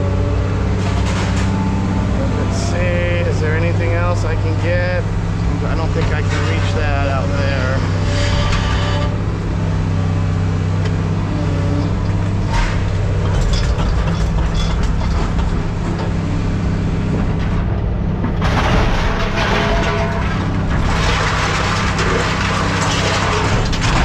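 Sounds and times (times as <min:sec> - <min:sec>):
heavy machine engine running: 0:00.0 - 0:24.0.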